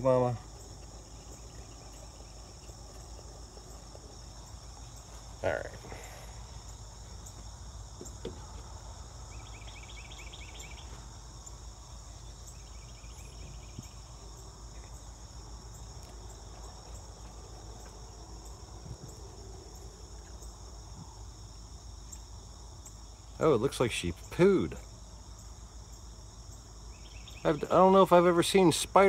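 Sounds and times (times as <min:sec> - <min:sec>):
insects high ringing: 0:00.0 - 0:29.0
low steady hum: 0:00.0 - 0:29.0
pulsing insect trill: 0:00.0 - 0:29.0.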